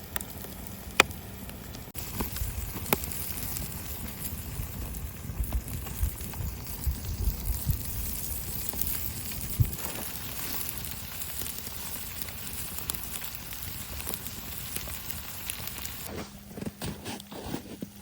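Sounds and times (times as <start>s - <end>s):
campfire crackling and popping: 0.0s - 16.6s.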